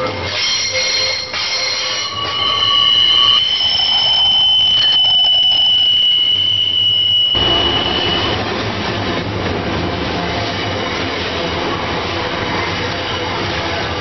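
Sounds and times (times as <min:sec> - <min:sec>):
train wheels squealing on rails: 0:00.0 - 0:09.3, 0:10.0 - 0:14.0
rolling train rumble: 0:00.0 - 0:14.0.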